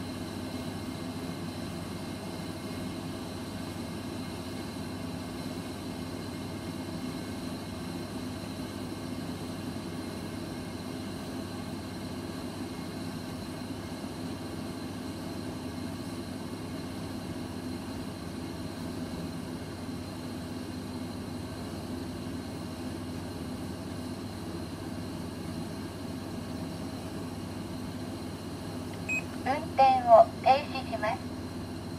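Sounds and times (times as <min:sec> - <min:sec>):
fan heater running: 0:00.0 - 0:31.9.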